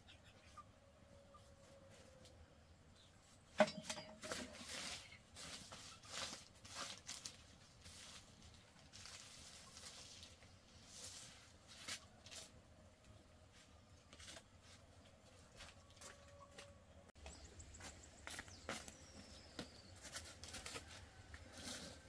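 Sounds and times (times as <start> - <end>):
leaves rustling and crinkling: 4.2 - 22.0.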